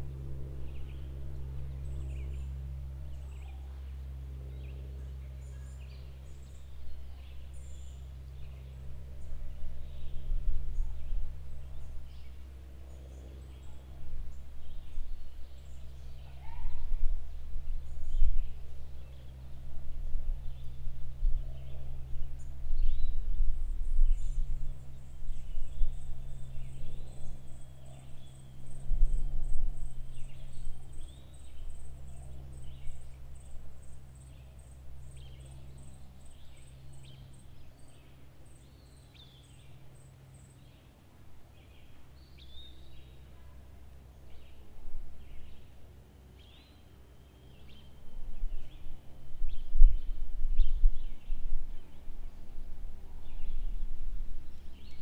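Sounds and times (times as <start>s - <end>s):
low wind rumble: 0.0s - 55.0s
small birds chirping: 0.0s - 55.0s.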